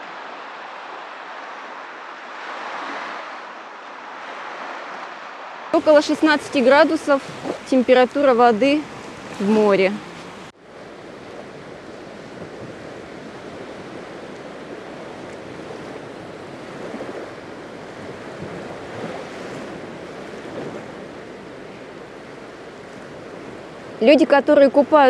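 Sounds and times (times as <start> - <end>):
small waves washing on sand: 0.0 - 25.0.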